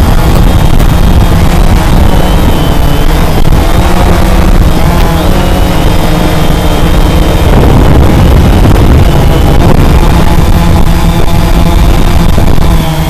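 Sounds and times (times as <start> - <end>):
drone propellers whirring loudly: 0.0 - 13.0
prop wash rumble on microphone: 0.0 - 13.0.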